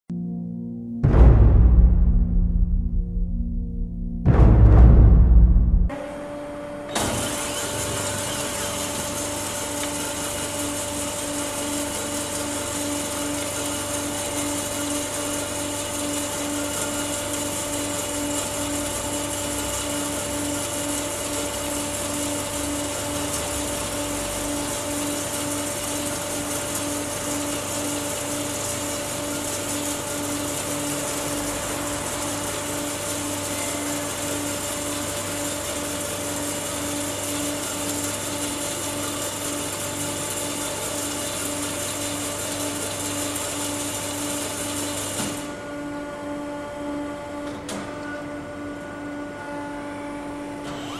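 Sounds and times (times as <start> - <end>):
band saw machine hum: 0.3 - 50.9.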